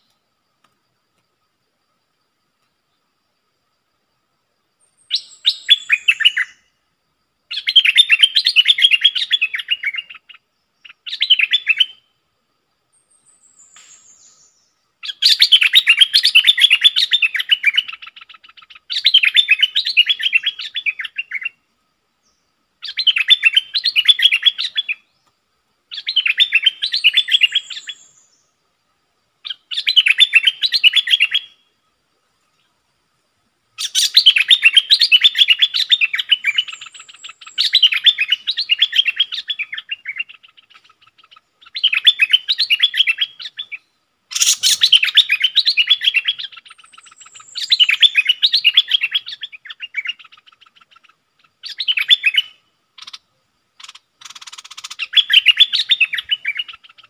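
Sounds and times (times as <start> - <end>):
bird warbling song: 4.8 - 6.8, 7.5 - 12.1, 12.9 - 25.3, 25.9 - 28.6, 29.4 - 32.8, 33.8 - 57.0.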